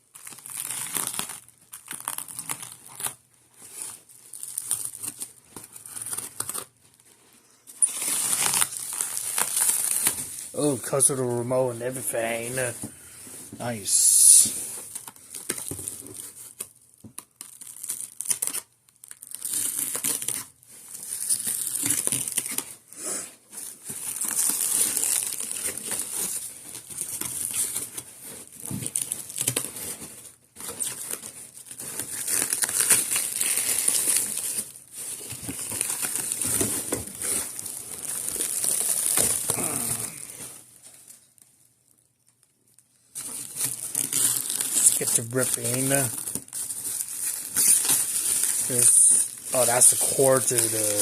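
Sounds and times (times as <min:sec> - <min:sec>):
packaging crinkling and rustling: 0:00.0 - 0:51.0.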